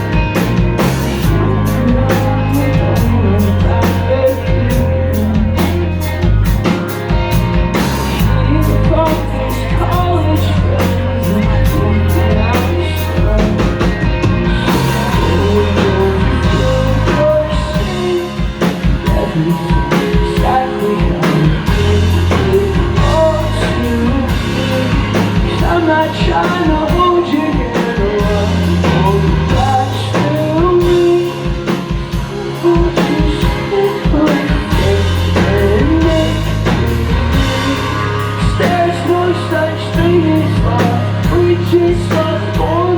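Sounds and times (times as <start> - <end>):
person singing: 0.0 - 42.9
rock band playing: 0.0 - 42.9.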